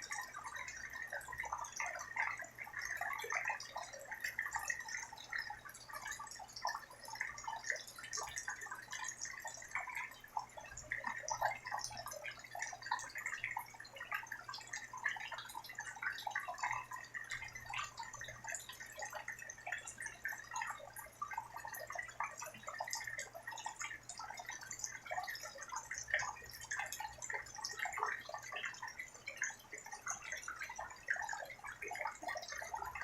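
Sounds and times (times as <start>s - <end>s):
rain drops and drips: 0.0s - 33.0s.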